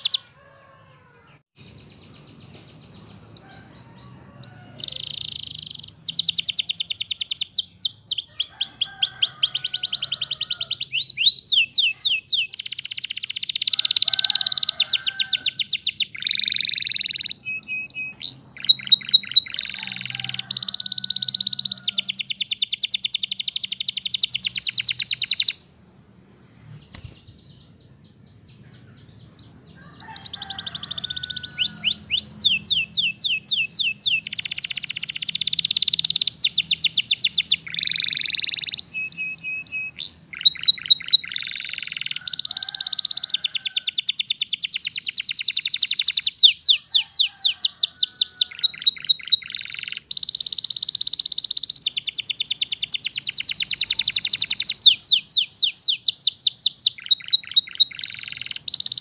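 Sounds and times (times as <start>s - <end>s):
canary singing trills: 0.0s - 25.7s, 26.7s - 59.0s.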